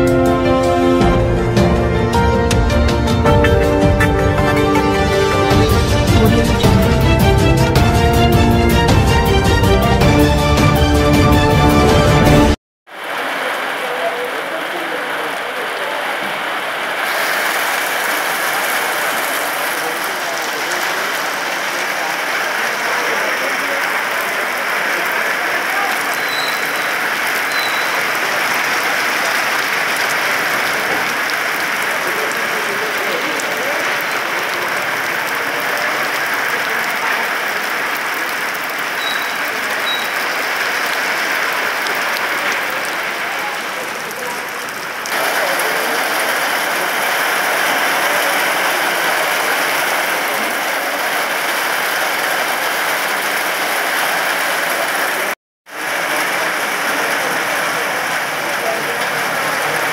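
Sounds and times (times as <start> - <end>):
heavy rain on wet street: 3.3 - 59.9.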